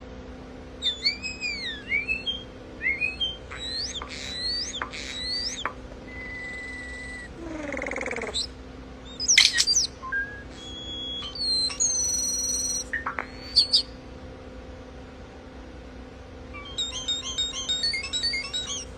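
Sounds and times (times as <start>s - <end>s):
starling singing: 0.8s - 14.0s, 16.6s - 18.9s.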